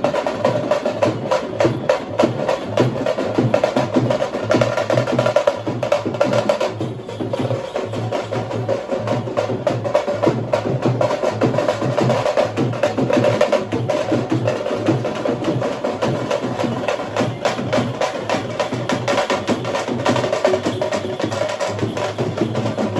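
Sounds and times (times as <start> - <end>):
fast frame drumming: 0.0 - 22.9.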